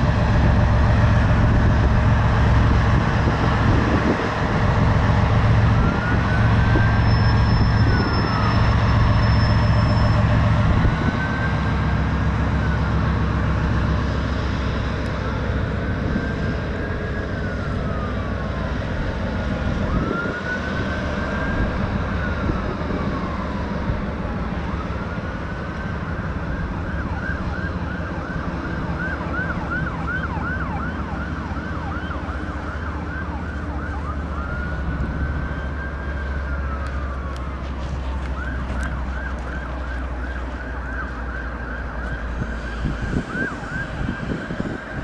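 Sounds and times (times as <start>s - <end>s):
emergency siren wailing and yelping: 0.0s - 14.4s, 15.2s - 45.0s
low train rumble: 0.0s - 45.0s.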